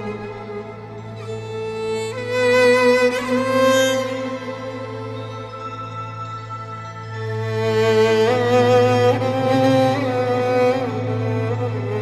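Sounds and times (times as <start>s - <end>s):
sustained string notes: 0.0s - 12.0s.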